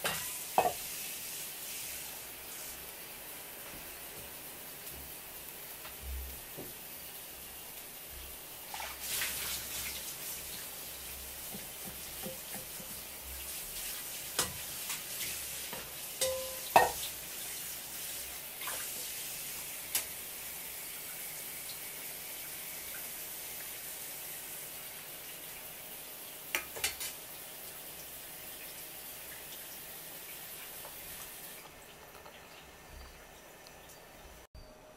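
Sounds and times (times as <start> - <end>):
broth boiling with bubbling hiss: 0.0 - 34.5.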